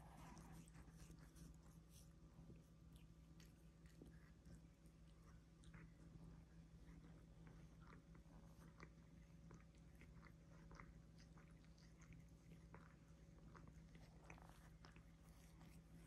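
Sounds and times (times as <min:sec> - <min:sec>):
cats licking fur: 0:00.0 - 0:16.0.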